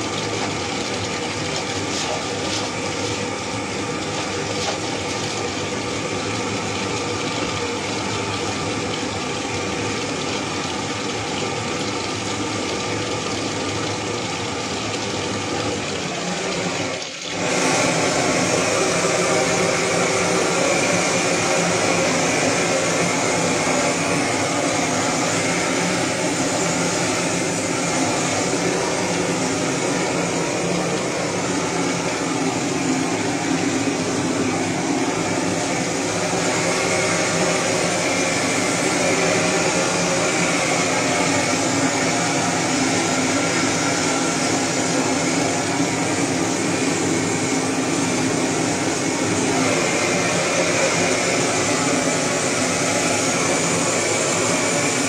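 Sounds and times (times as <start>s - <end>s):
gas blowtorch burning: 0.0s - 10.0s, 15.6s - 55.0s.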